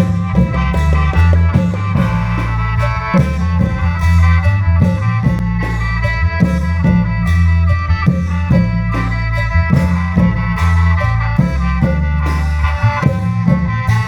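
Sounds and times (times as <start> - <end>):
drums beating driving rhythm: 0.0 - 14.0
heavy bass line: 0.0 - 14.0
sustained reed melody: 0.0 - 14.0.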